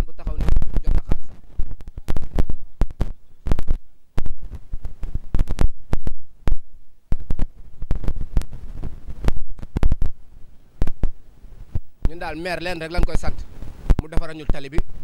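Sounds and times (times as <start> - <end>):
low thumps on microphone: 0.0 - 12.3.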